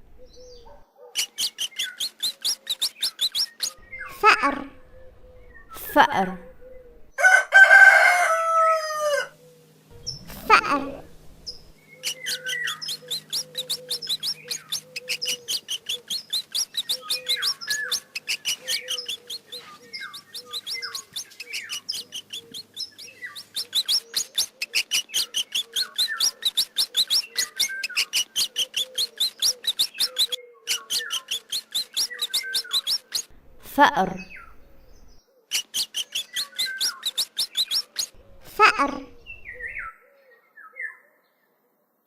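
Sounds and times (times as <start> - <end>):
mouse squeaking: 0.2 - 7.1, 9.9 - 39.9.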